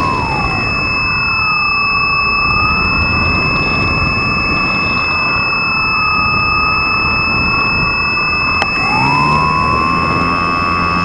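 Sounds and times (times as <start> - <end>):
model airplane motor whining: 0.0 - 11.0
wind rush on microphone: 0.0 - 11.0.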